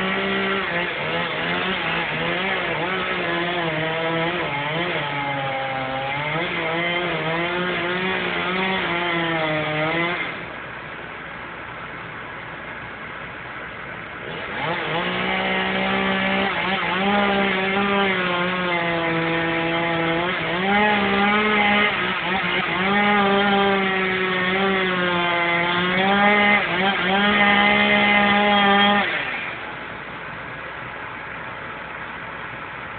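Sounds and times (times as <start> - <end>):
chainsaw cutting wood: 0.0 - 10.6, 14.2 - 30.0.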